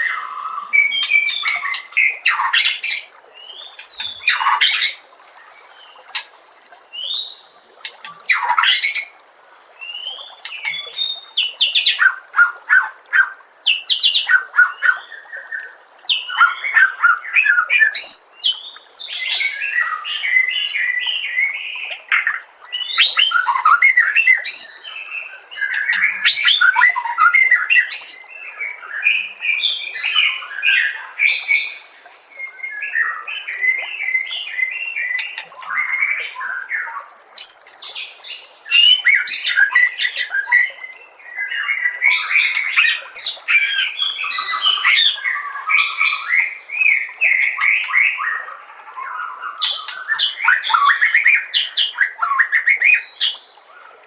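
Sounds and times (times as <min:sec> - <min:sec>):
bird singing whistles and trills: 0:00.0 - 0:05.0, 0:09.8 - 0:53.5.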